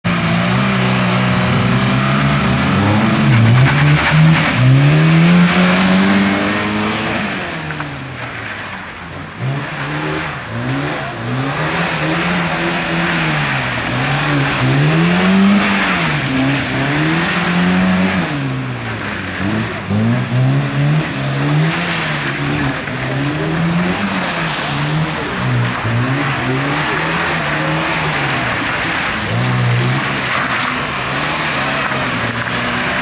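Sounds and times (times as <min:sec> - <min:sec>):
car engine revving: 0:00.0 - 0:33.0
tyres squealing on wet asphalt: 0:00.0 - 0:33.0.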